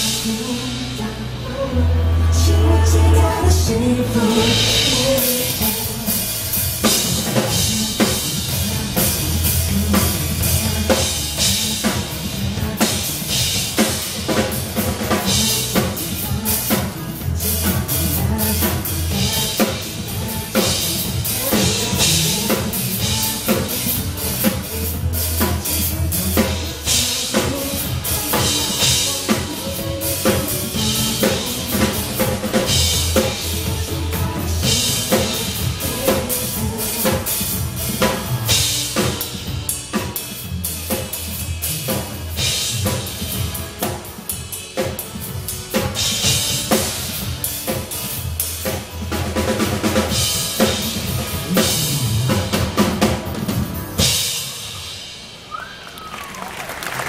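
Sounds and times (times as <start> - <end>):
backing music with bass line: 0.0 - 54.5
drum kit playing fast beat: 0.0 - 55.5.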